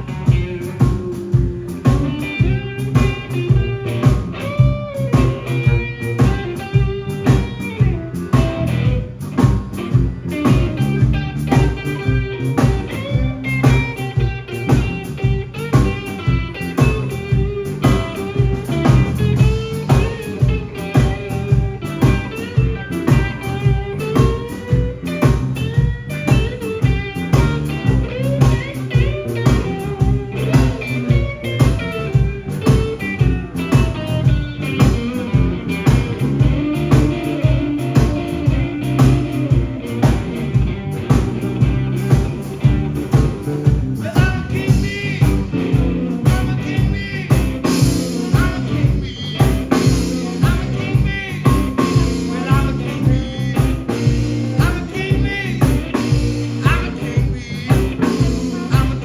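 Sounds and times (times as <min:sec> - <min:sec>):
live blues band playing: 0:00.0 - 0:59.0.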